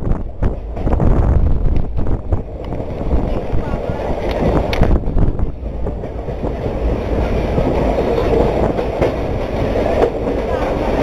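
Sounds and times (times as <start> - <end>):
train wheels rumbling on rails: 0.0 - 11.0
wheels clacking over rail joints: 0.2 - 11.0.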